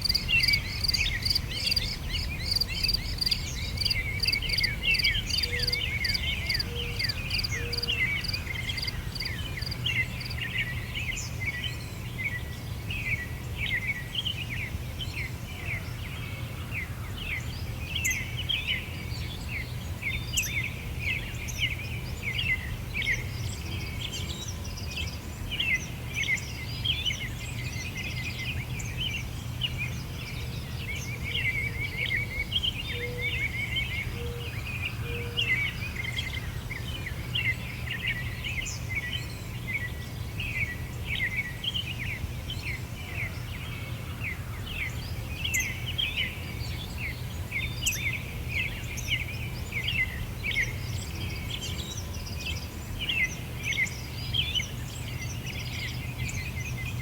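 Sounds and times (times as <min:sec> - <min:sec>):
small birds chirping chorus: 0:00.0 - 0:57.0.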